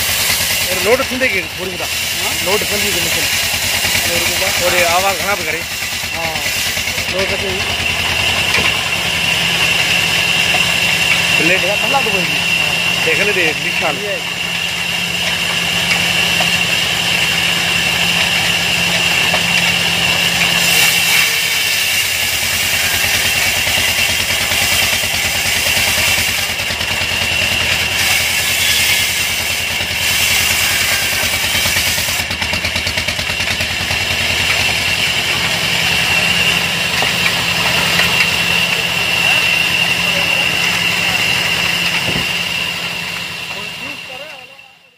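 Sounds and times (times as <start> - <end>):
saw blade cutting log: 0.0 - 44.6
diesel engine running: 0.0 - 44.9
high whine of saw drive: 0.0 - 44.9.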